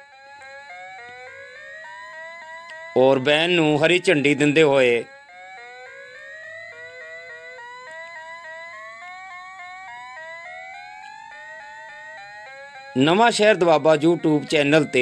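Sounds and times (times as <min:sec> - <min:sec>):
rising electronic melody: 0:00.0 - 0:15.0.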